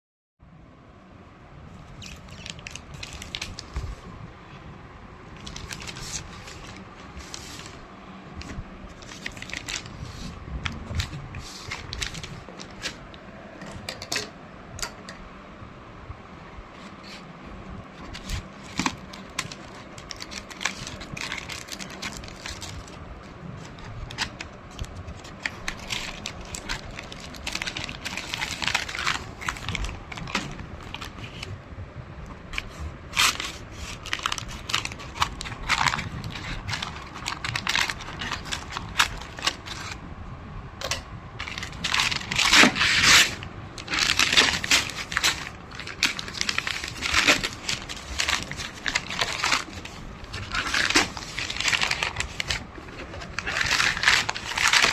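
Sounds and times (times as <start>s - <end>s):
packaging crinkling and tearing: 1.9s - 4.0s, 5.3s - 7.8s, 8.4s - 13.2s, 17.9s - 31.5s, 32.5s - 40.0s, 40.8s - 54.9s.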